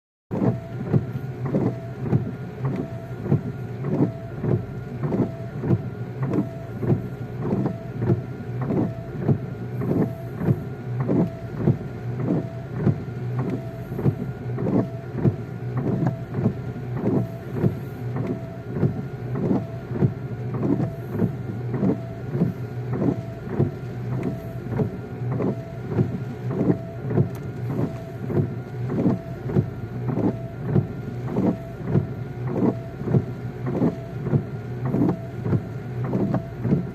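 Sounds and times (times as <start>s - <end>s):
vehicle engine hum: 0.3s - 36.9s
windshield wipers sweeping: 0.3s - 36.9s.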